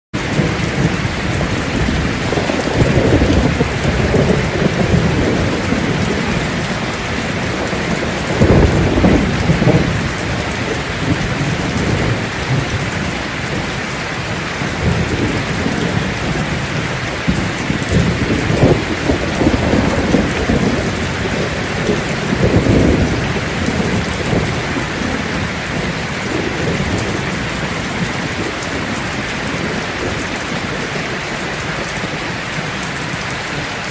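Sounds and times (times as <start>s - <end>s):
heavy rain drumming on a roof: 0.1s - 33.9s
rolling thunder rumbles: 0.2s - 33.9s.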